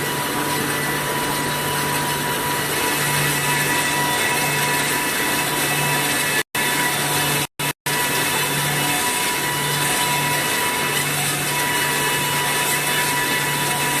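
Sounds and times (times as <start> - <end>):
woodworking machine running: 0.0 - 14.0.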